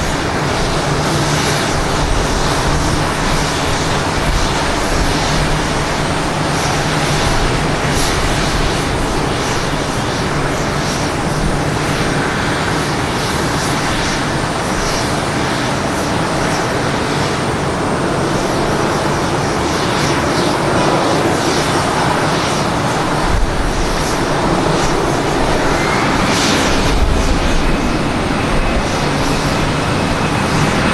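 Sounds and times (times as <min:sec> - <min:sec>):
jet engines running: 0:00.0 - 0:30.9.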